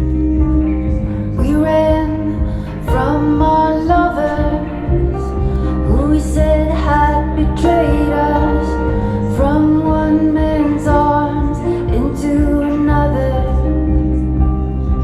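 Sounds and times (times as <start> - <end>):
recorded song over loudspeakers: 0.0 - 15.0.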